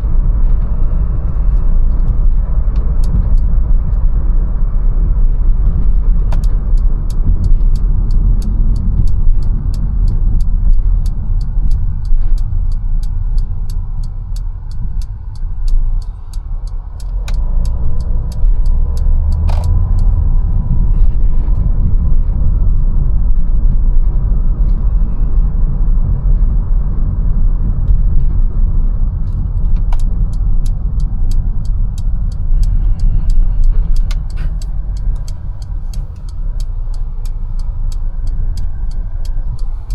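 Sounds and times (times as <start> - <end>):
car engine and tyres rumbling: 0.0 - 39.9
turn signal ticking: 0.0 - 39.9.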